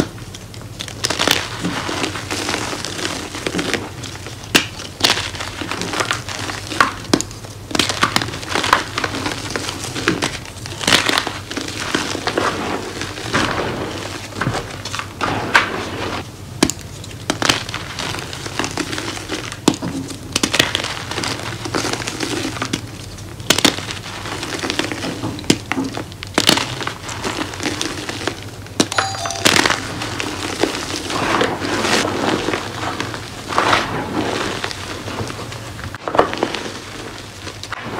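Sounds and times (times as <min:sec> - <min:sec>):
powder crunching and sifting: 0:00.8 - 0:16.3, 0:17.3 - 0:25.2, 0:26.0 - 0:28.4, 0:30.2 - 0:37.9.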